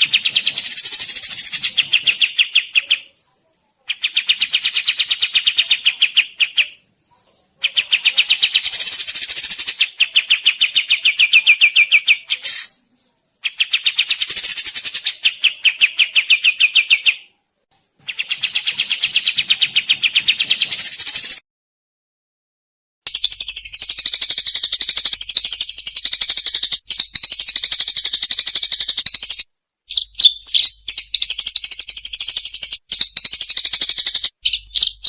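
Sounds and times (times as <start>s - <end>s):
songbird chirping: 0.0s - 21.4s, 23.1s - 35.0s.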